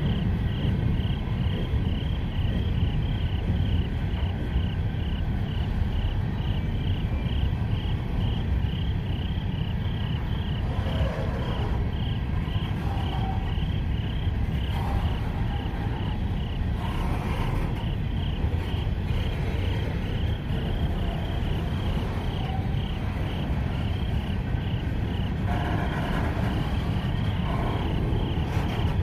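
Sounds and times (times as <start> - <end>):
insect chirping: 0.0 - 29.0
train wheels rumbling on rail: 0.0 - 29.0.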